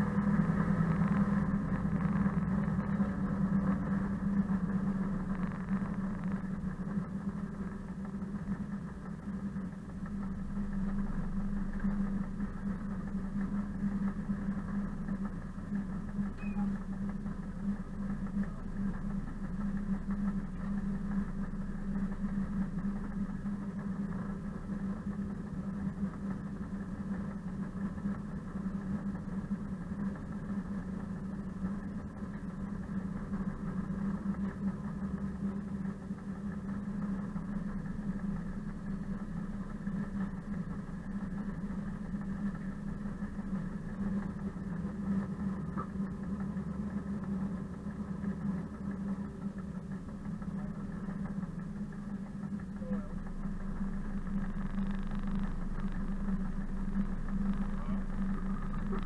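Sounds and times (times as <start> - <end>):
locomotive diesel engine droning: 0.0 - 59.0.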